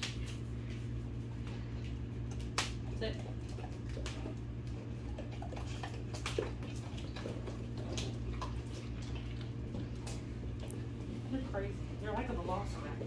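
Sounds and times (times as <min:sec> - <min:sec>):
dogs licking and lapping: 0:00.0 - 0:13.0
steady low hum: 0:00.0 - 0:13.0.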